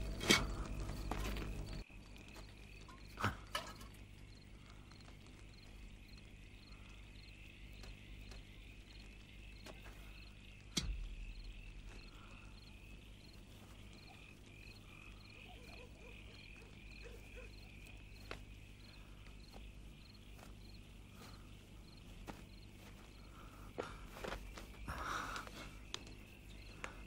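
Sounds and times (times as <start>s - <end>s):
chirping night insects: 0.0s - 27.0s.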